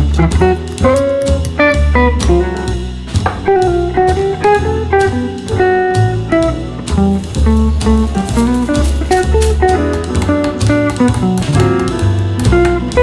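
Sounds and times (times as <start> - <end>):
bluesy jazzy guitar music: 0.0 - 13.0.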